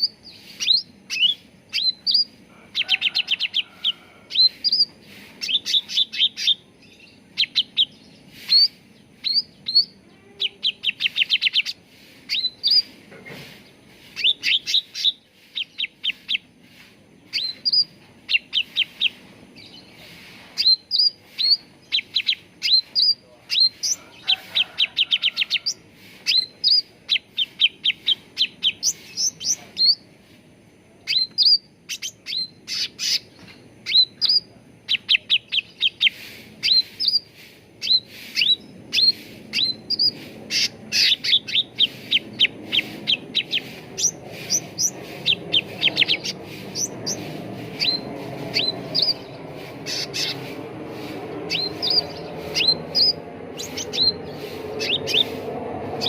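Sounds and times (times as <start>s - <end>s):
songbird chirps and whistles: 0.0s - 2.4s, 4.3s - 13.0s, 13.6s - 24.0s, 25.1s - 30.1s, 31.0s - 50.4s, 51.5s - 55.3s.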